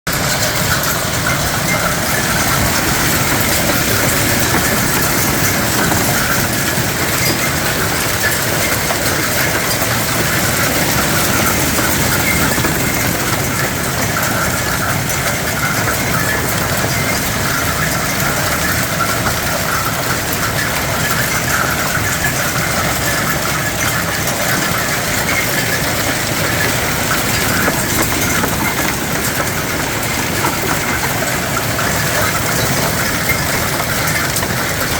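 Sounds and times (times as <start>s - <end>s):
hailstones rattling on hard surfaces: 0.1s - 34.9s.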